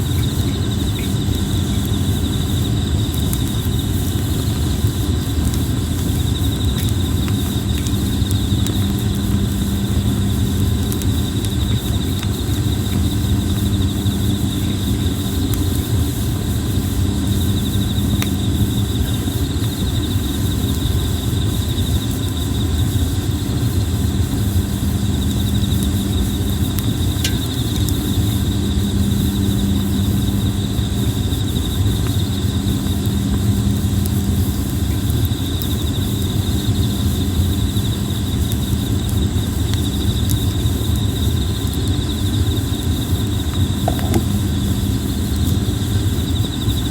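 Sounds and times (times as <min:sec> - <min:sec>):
campfire crackling pops: 0:00.0 - 0:46.9
insects trilling: 0:00.0 - 0:46.9.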